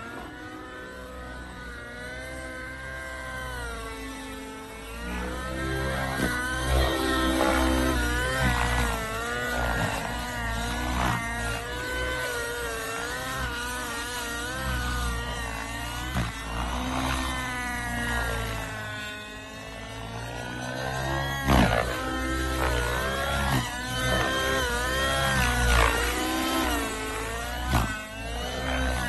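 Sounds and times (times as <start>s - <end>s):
model helicopter engine: 0.0s - 29.0s.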